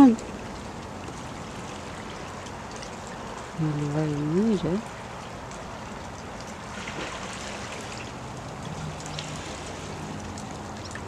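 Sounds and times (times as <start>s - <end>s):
drips close by: 0.0s - 11.0s
rain falling: 0.0s - 11.0s.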